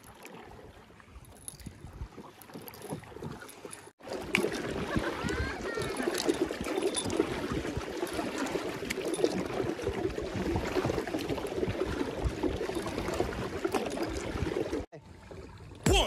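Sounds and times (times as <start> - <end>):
water gurgling around kayak: 0.0 - 15.9.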